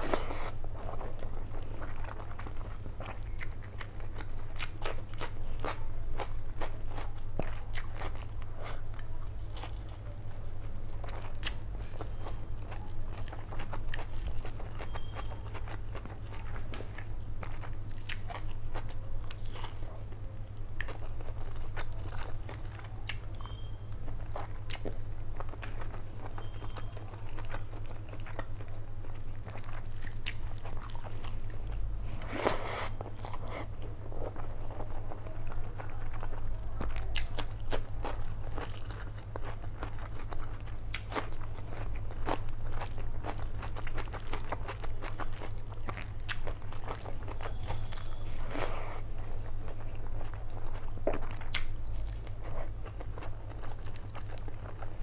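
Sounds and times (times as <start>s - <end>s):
chewing and mouth sounds: 0.0s - 55.0s.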